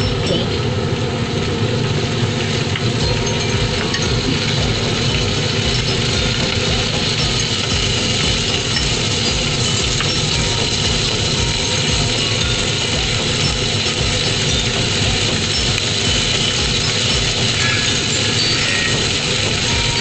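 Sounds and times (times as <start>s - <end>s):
wings sizzling in a pan: 0.0s - 20.0s.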